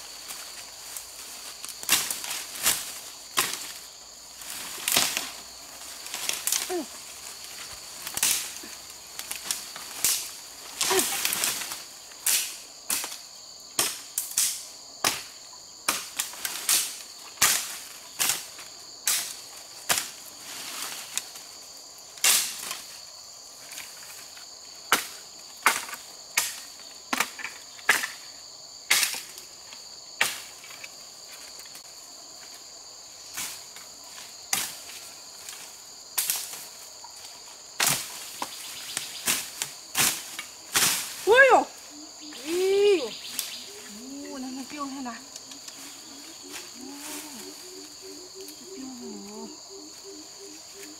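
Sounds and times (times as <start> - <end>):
high insect trill: 0.0 - 50.9.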